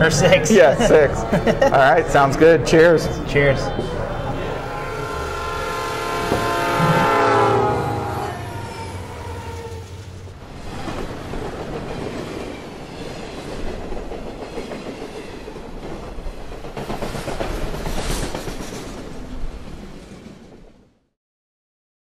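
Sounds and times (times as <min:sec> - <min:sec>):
train rumbling past on rails: 0:00.0 - 0:21.1.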